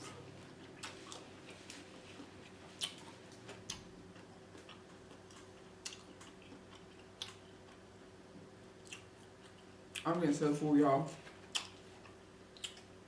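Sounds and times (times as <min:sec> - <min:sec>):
soft chewing: 0:00.0 - 0:10.2, 0:11.1 - 0:13.0.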